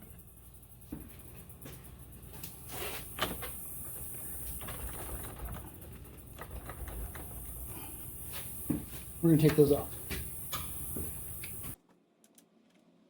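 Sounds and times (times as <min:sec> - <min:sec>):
motorcycle parts clicking and scraping: 0:02.3 - 0:12.9.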